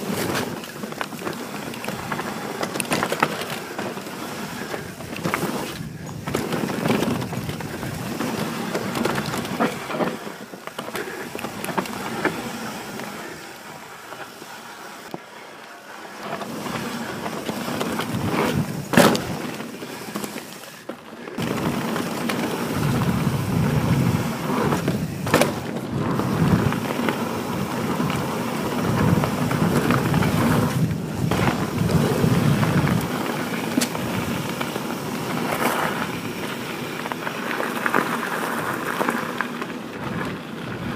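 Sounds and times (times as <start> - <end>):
bike rattling: 0.0 - 40.9
bike tyres rolling over dirt: 0.0 - 40.9.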